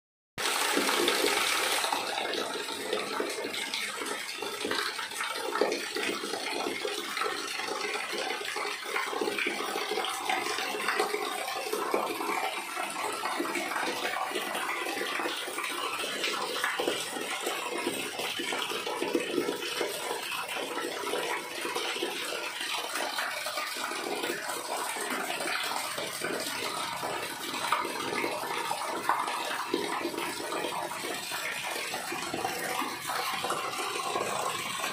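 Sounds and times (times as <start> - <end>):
rainwater pouring into drain: 0.4 - 34.9.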